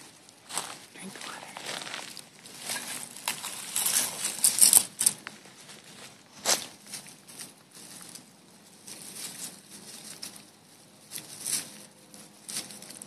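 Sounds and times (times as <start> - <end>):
rustling in dry twigs and leaves: 0.0 - 13.0.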